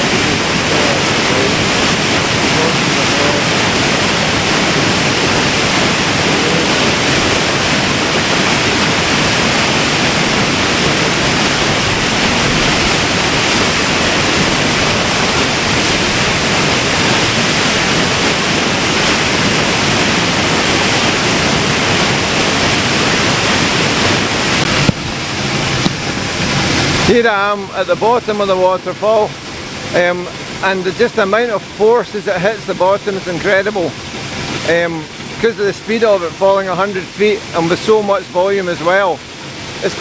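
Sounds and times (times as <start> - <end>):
waterfall rushing onto rocks: 0.0 - 40.0.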